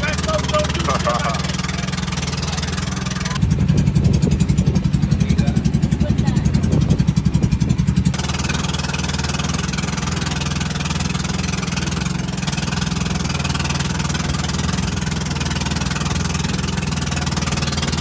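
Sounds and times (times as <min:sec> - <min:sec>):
boat engine droning: 0:00.0 - 0:18.0
water rushing: 0:00.0 - 0:18.0
wind: 0:00.0 - 0:18.0.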